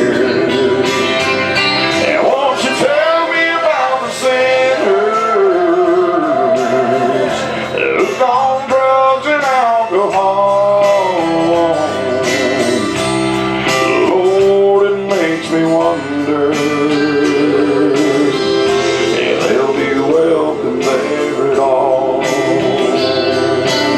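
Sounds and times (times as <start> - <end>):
instrumental accompaniment: 0.0 - 23.9
man singing gospel: 0.0 - 23.9.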